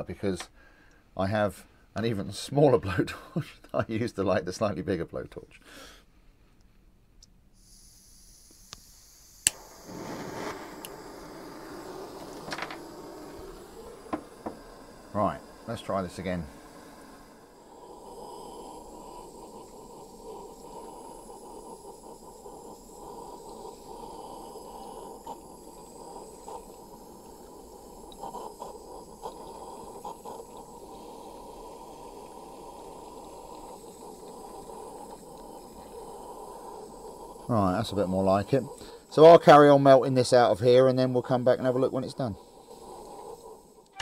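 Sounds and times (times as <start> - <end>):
micro torch burning: 7.5 - 44.0.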